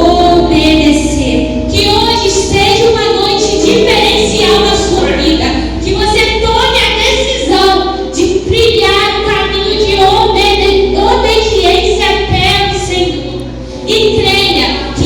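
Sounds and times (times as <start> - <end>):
woman singing worship song: 0.0 - 15.0.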